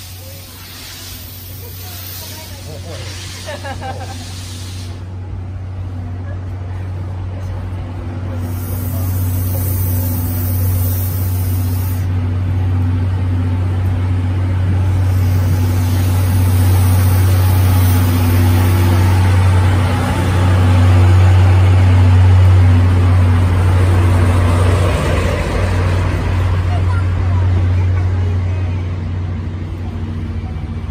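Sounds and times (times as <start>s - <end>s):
diesel locomotive engine drone: 0.0s - 30.9s.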